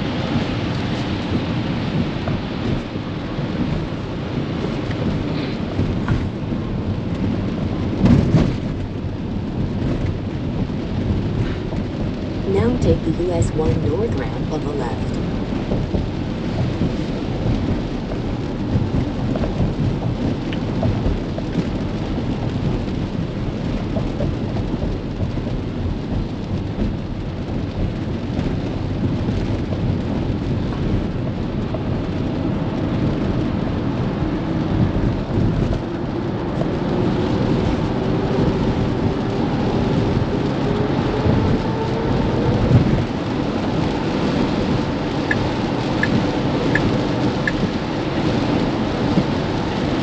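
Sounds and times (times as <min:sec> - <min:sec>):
rain on car windshield: 0:00.0 - 0:50.0
tyres rumbling on wet road: 0:00.0 - 0:50.0.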